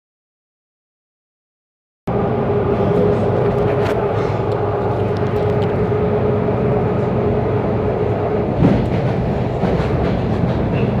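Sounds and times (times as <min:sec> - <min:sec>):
train rolling rumble: 0:02.1 - 0:11.0.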